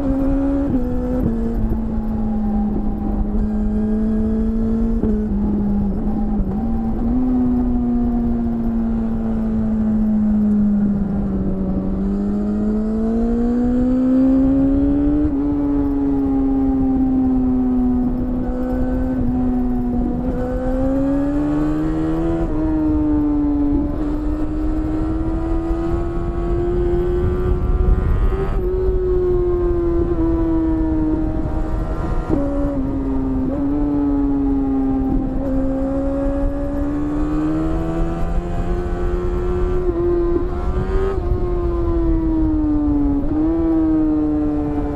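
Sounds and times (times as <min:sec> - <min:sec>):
low rush of wind: 0:00.0 - 0:44.9
motorcycle engine: 0:00.0 - 0:44.9.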